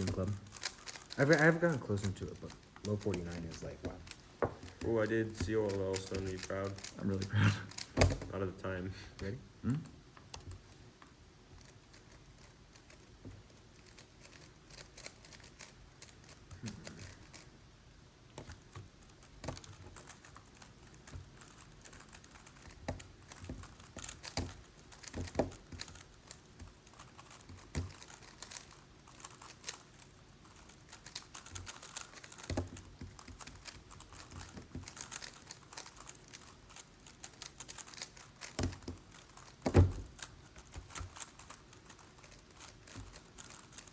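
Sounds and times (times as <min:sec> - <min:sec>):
puzzle cube plastic clicks: 0:00.0 - 0:08.4, 0:10.2 - 0:17.5, 0:18.3 - 0:43.9.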